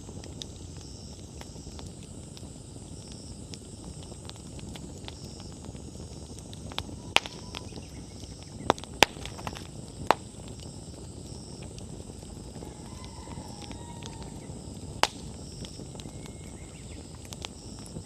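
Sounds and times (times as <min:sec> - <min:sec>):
bonfire flames rustling: 0:00.0 - 0:18.0
firewood crackling: 0:00.0 - 0:18.0
sharp pops from burning wood: 0:00.0 - 0:18.0.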